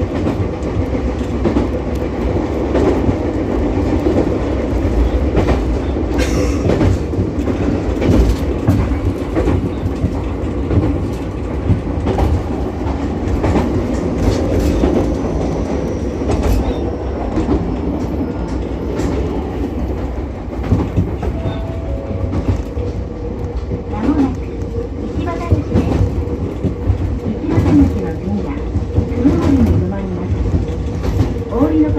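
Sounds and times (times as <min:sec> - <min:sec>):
railcar rumble: 0:00.0 - 0:31.9.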